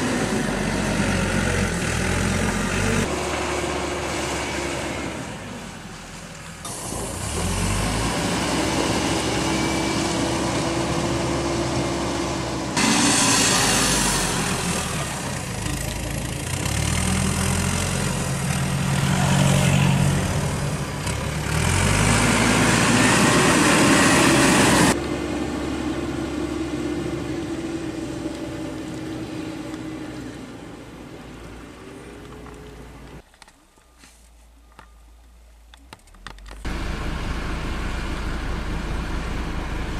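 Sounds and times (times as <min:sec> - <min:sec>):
diesel engine running: 0:00.0 - 0:33.2, 0:36.7 - 0:39.9.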